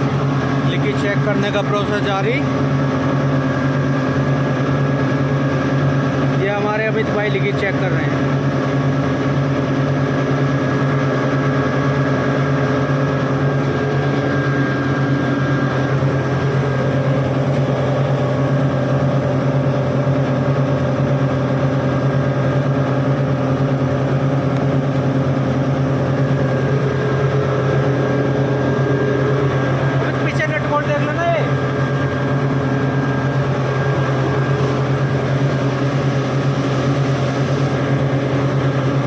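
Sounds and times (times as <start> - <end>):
machinery droning: 0.0 - 39.0.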